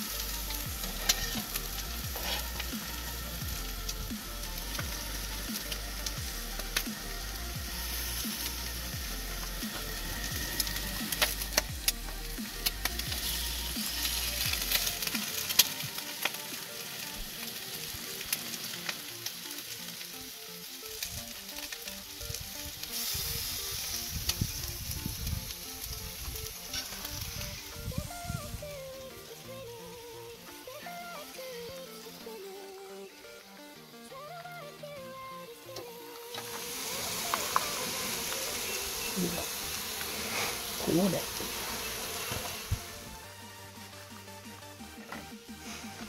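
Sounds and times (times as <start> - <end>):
food sizzling in hot oil: 0.0 - 46.0.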